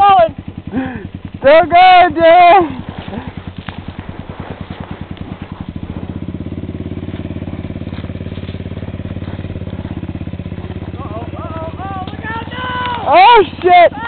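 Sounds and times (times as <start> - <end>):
atv engine labouring uphill: 0.0 - 14.0.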